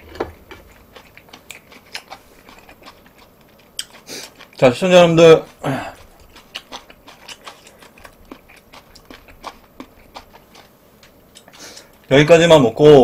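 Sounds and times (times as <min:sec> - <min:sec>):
person chewing food: 0:00.0 - 0:12.1.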